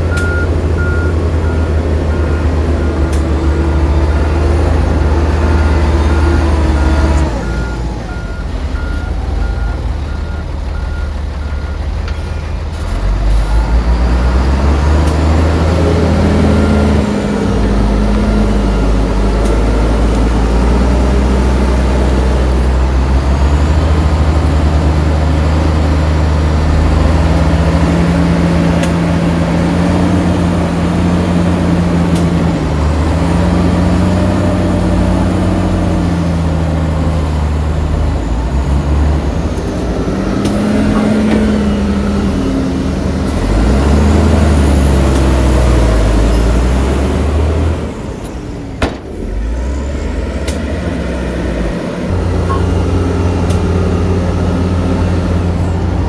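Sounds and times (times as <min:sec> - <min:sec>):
heavy diesel engine revving: 0:00.0 - 0:56.0.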